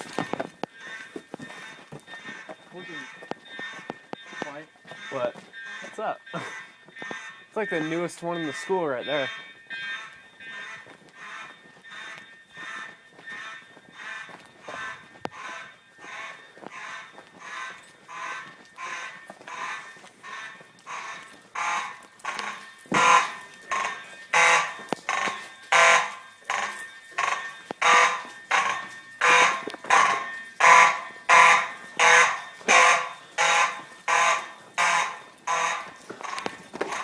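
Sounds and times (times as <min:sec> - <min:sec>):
fire alarm horn buzzing: 0:00.0 - 0:37.0.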